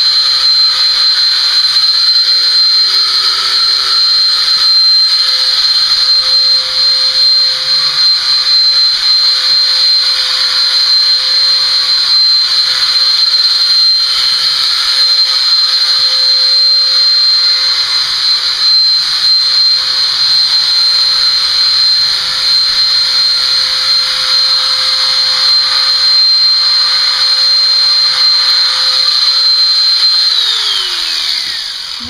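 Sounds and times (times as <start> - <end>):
electric clippers whining: 0.0 - 32.0.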